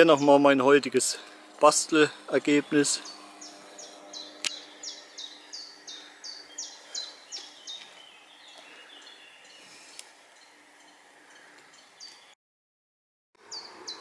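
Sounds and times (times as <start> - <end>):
songbird singing: 0.0 - 12.4, 13.4 - 14.0.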